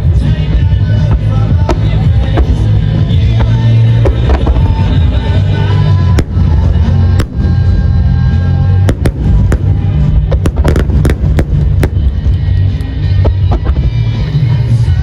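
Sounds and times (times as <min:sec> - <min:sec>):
fireworks bursting with sharp bangs: 0:00.0 - 0:15.0
loud music with heavy beat: 0:00.0 - 0:15.0.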